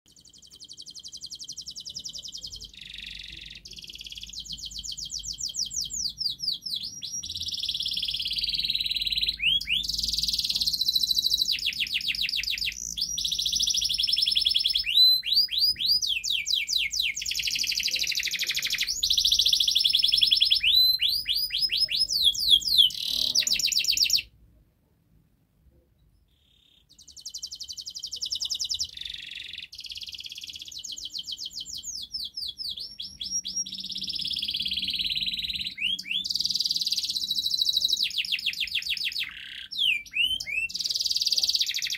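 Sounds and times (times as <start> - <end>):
canary singing trills: 0.1 - 24.3, 26.2 - 41.9.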